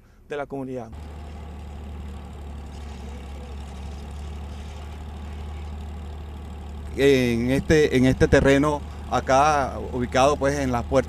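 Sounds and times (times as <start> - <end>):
grader engine running: 0.9 - 11.0.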